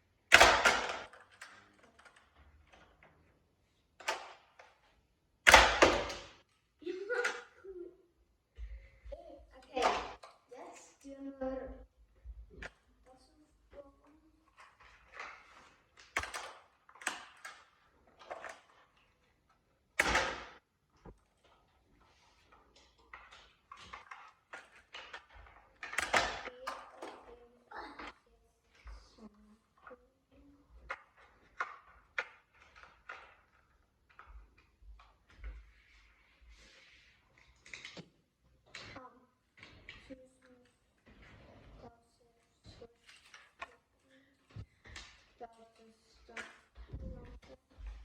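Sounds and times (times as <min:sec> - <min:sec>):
plastic parts clacking: 0:00.3 - 0:07.7, 0:13.7 - 0:41.4, 0:42.7 - 0:48.0.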